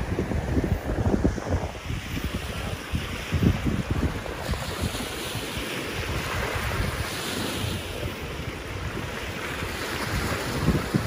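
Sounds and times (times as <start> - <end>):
lake waves washing on shore: 0.0 - 11.0
wind buffeting microphone: 0.0 - 11.0.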